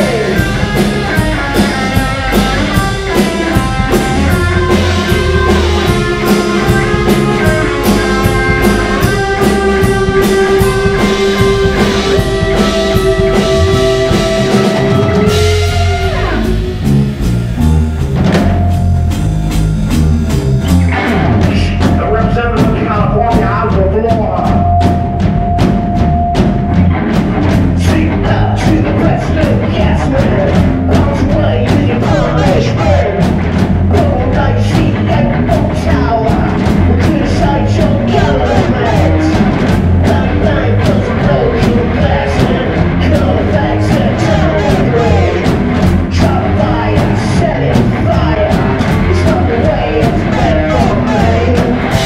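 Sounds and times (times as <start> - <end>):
live rock band playing: 0.0 - 52.0.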